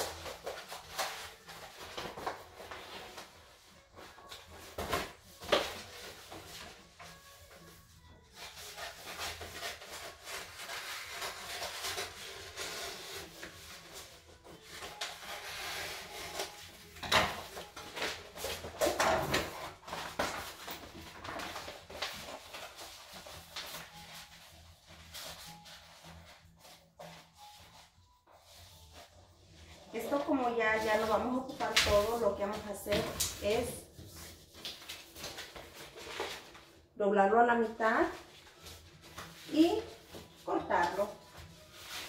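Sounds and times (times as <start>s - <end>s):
paper rustling and crinkling: 0.0s - 36.9s, 38.0s - 42.0s.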